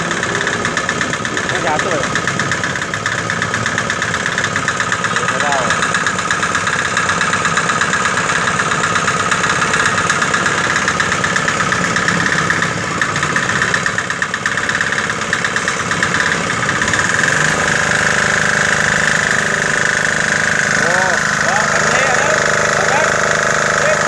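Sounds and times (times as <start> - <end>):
small engine running: 0.0 - 24.0
sprayer pump spraying water: 0.0 - 24.0.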